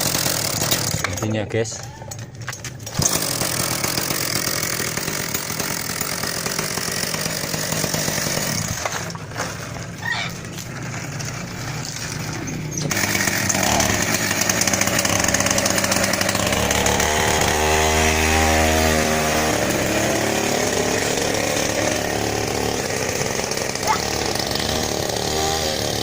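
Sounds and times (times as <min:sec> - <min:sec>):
two-stroke engine revving: 0:00.0 - 0:01.9, 0:02.8 - 0:26.0.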